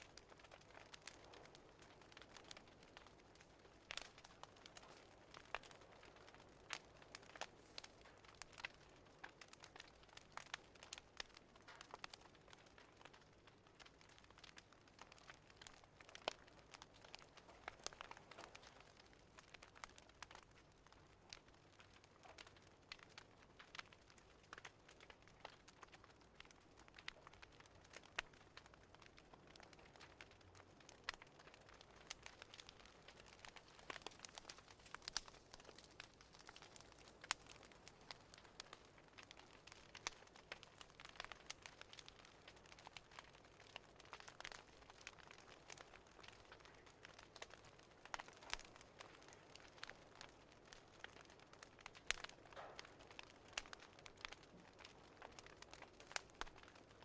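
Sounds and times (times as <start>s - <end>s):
faint fireplace fire crackling: 0.0s - 57.0s.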